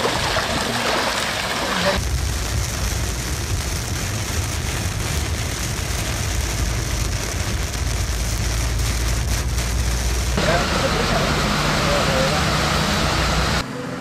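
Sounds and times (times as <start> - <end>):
heavy rain on car windscreen: 0.0 - 12.6
car rumbling on wet road: 0.0 - 14.0.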